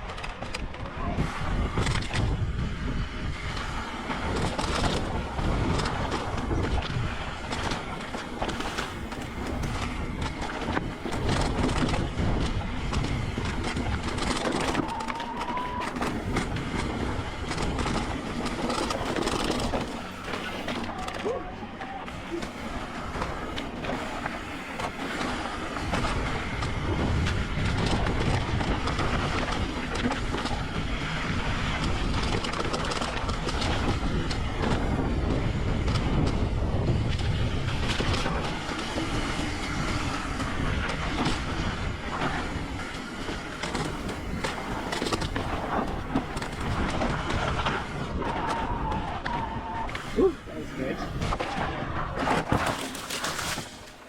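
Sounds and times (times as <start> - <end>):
bike rattling clicks: 0.0 - 50.4
bike tyres rolling over dirt: 0.0 - 54.0.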